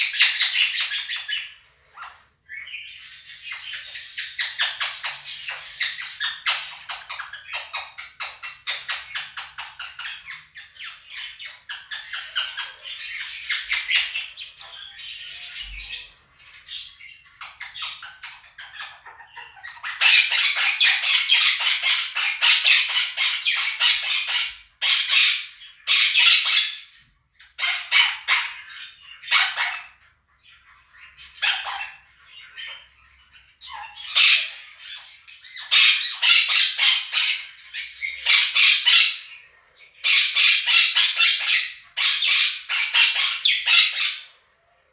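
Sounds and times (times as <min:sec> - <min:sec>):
parakeets squawking: 0:00.0 - 0:44.4
budgerigars chirping and warbling: 0:00.0 - 0:44.5.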